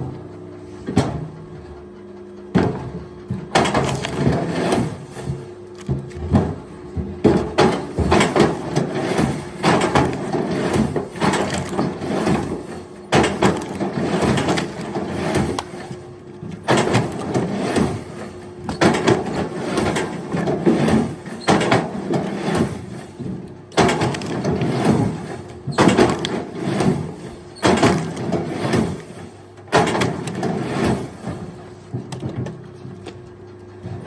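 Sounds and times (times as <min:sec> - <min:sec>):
steady motor hum: 0:00.0 - 0:34.0.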